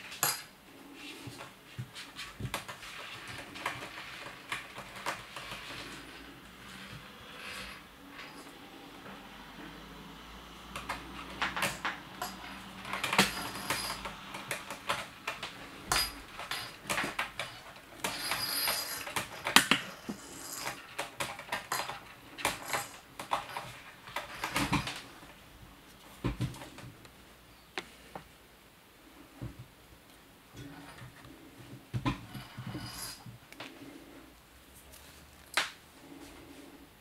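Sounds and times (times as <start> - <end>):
kitten playing on wooden tabletop: 1.0 - 25.3, 30.6 - 36.8.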